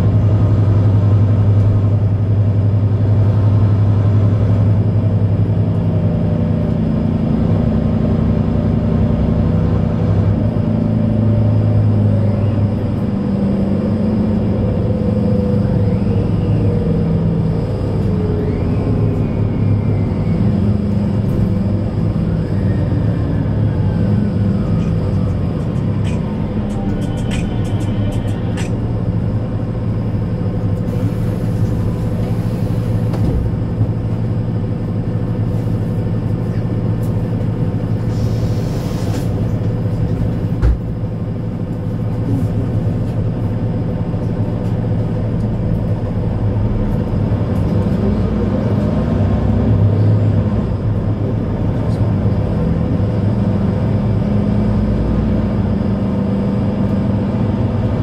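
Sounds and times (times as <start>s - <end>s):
bus engine drone: 0.0s - 58.0s.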